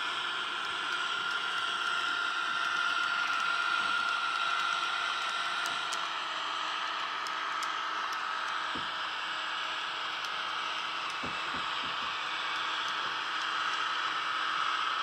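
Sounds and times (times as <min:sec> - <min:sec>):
model train diesel engine sound: 0:00.0 - 0:15.0.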